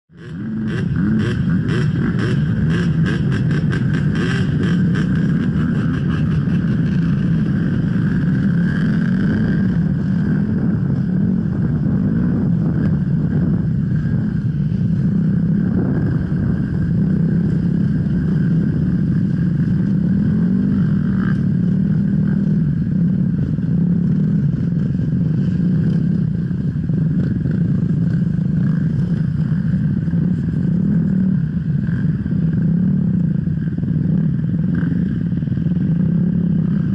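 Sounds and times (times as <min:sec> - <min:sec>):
motorcycle engine running: 0:00.1 - 0:36.9.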